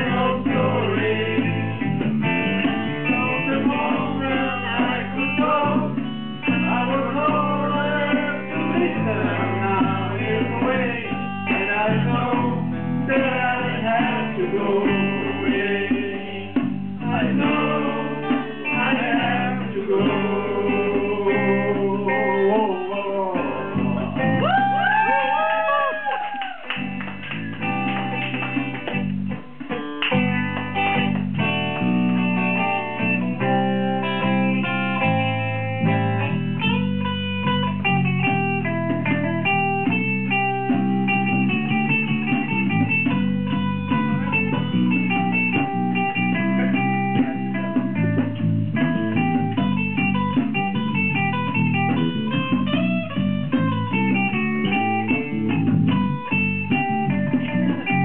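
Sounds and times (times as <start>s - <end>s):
bass guitar: 0.0s - 58.0s
electric guitar: 0.0s - 58.0s
live band playing: 0.0s - 58.0s.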